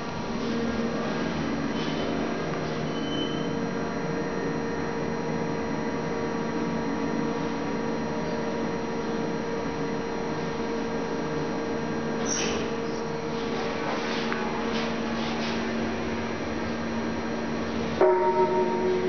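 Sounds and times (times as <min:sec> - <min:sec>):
elevator hydraulic pump humming: 0:00.0 - 0:19.0.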